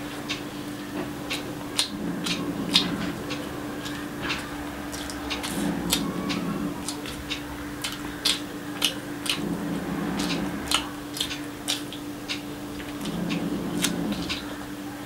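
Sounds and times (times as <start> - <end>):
low hum: 0.0 - 14.6
wet chewing and lip-smacking: 1.3 - 14.5.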